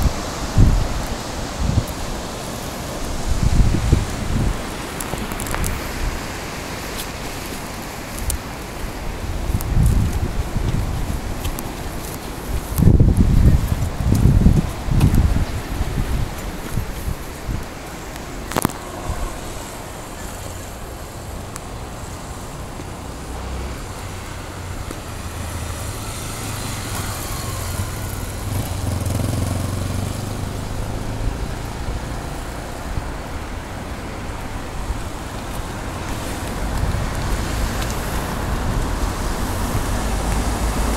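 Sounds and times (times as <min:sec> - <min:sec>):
passing cars and motorbikes: 0:00.0 - 0:40.9.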